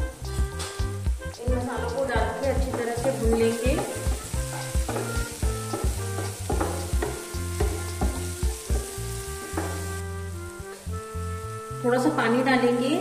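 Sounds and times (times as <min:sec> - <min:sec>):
background music with held notes: 0:00.0 - 0:13.0
masala sizzling in a pan: 0:00.0 - 0:13.0.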